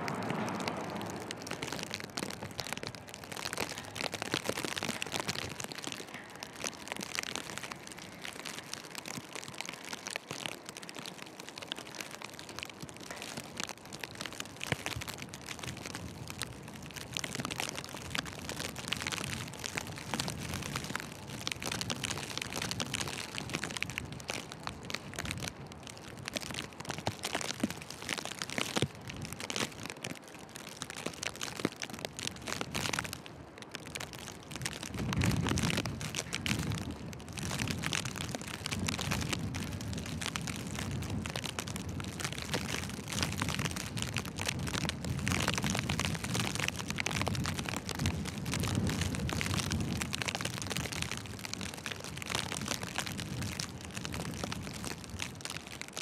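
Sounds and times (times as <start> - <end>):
wind and snowfall hiss: 0.0 - 56.0.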